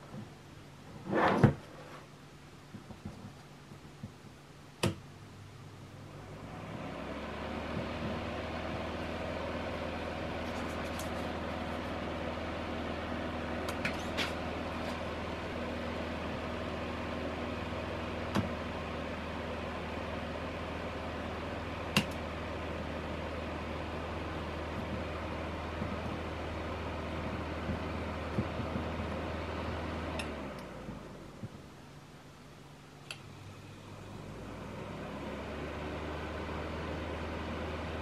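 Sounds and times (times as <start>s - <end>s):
fan heater whirring: 0.0s - 38.0s.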